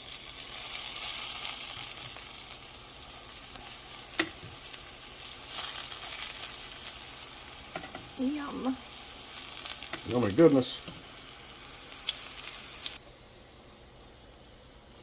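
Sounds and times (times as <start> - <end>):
mushrooms sizzling in a pan: 0.0 - 13.0.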